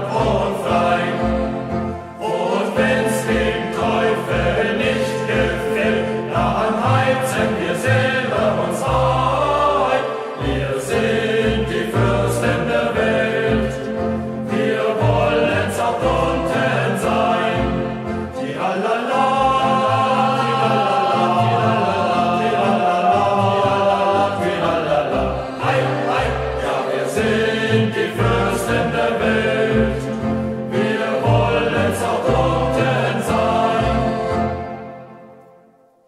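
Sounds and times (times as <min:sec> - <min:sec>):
choir singing in unison: 0:00.0 - 0:35.4.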